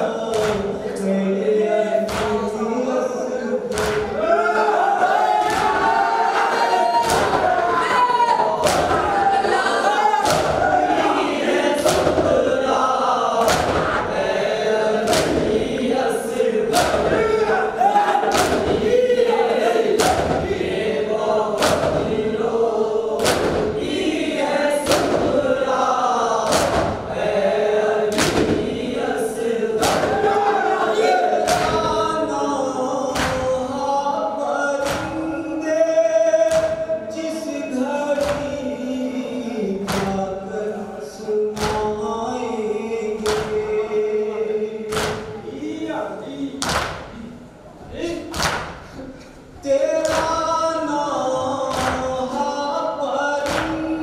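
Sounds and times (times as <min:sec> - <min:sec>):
men's chorus chanting: 0:00.0 - 0:54.0
rhythmic chest-beating: 0:00.0 - 0:54.0.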